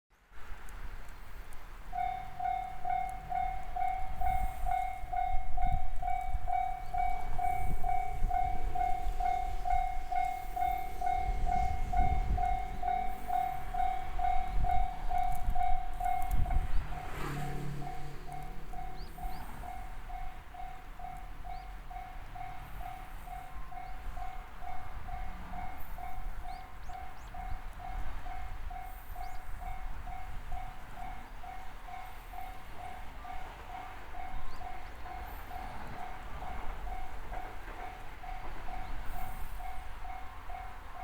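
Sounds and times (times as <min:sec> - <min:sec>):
electric train rumbling past: 0:00.2 - 0:41.0.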